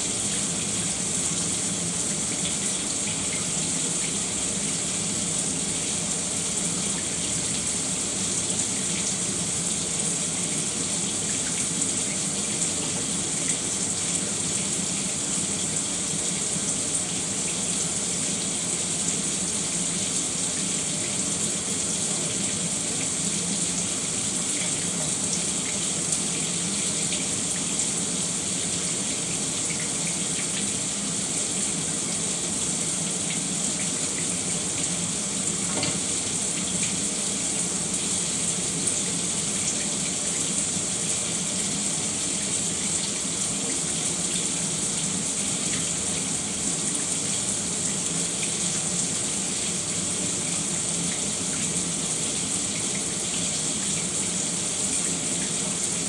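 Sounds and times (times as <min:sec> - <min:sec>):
shower running: 0:00.0 - 0:56.0.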